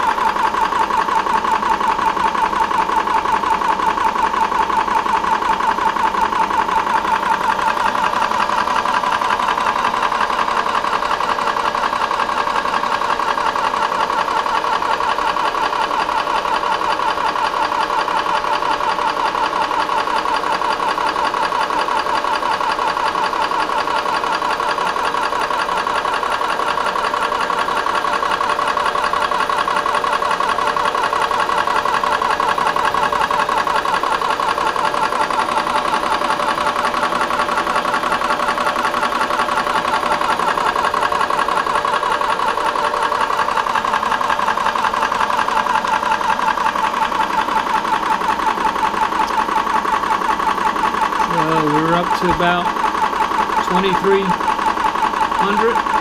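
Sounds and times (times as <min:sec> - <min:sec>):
air compressor pumping rattle: 0:00.0 - 0:56.0.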